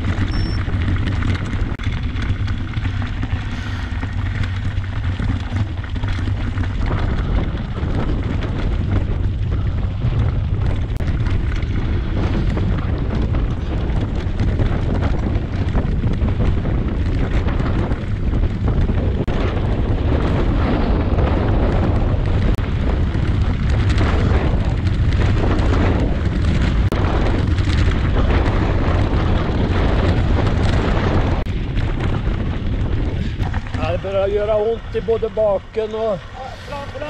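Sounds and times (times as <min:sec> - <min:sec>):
bike rattling: 0:00.0 - 0:37.0
wind rumble on microphone: 0:00.0 - 0:37.0.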